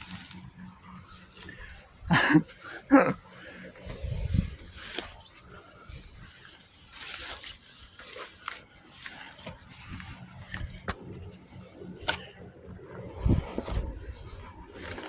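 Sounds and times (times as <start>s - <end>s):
footsteps through plants: 0.0s - 12.3s
rustling of brush: 0.0s - 12.4s, 13.1s - 15.0s.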